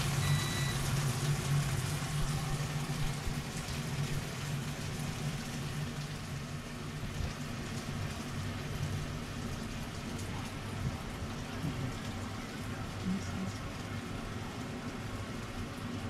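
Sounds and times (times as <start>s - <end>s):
cooking hiss: 0.0s - 16.0s.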